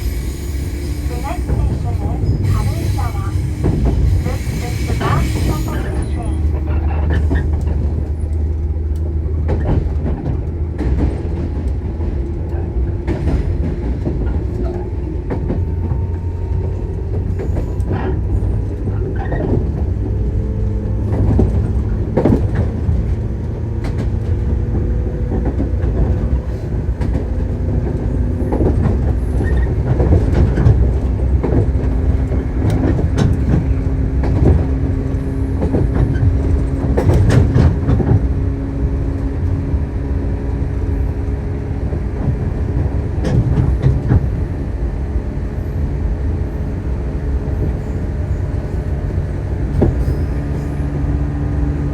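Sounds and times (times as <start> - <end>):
train interior rumble: 0.0 - 51.9.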